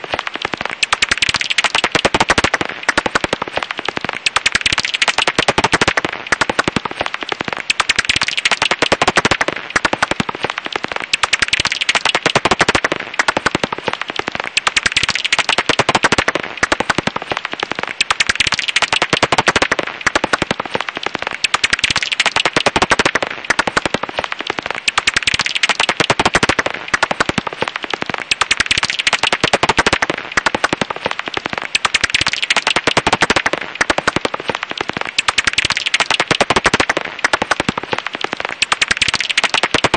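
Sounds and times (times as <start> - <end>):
bat calls rapid clicks: 0.0 - 39.9.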